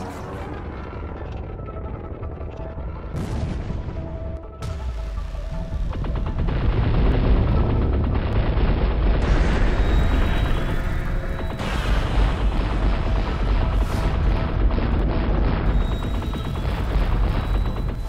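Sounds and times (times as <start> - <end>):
action music: 0.0 - 18.0
booming explosions: 3.1 - 18.0.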